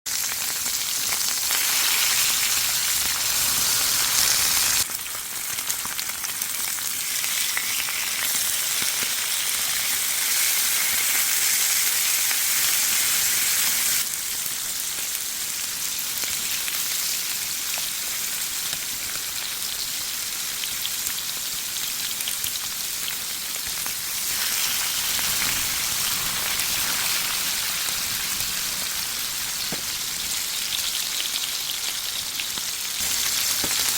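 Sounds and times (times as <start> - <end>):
meat sizzling on a grill: 0.1 - 33.9.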